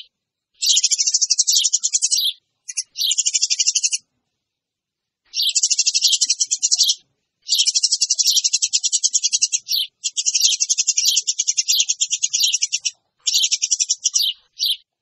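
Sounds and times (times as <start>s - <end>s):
sparrows chattering: 0.0s - 4.1s, 5.2s - 15.0s.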